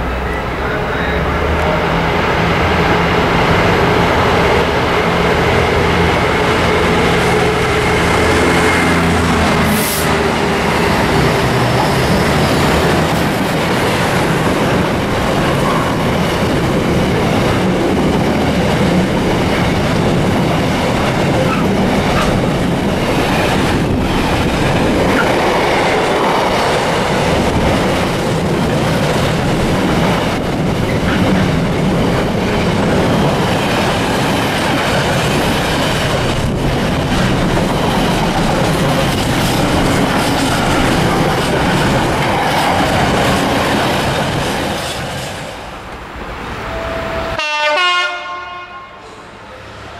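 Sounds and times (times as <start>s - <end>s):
freight train wheels on rails: 0.0s - 49.9s.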